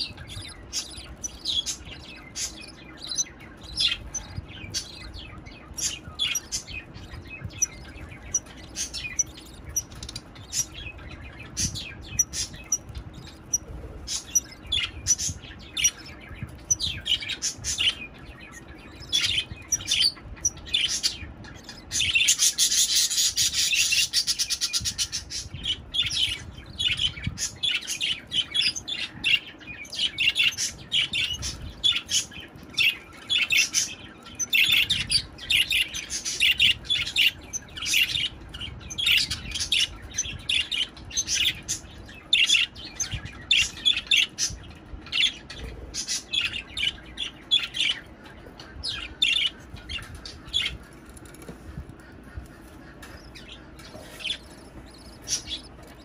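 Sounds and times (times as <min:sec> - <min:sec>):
budgerigars chirping: 0:00.0 - 0:56.0.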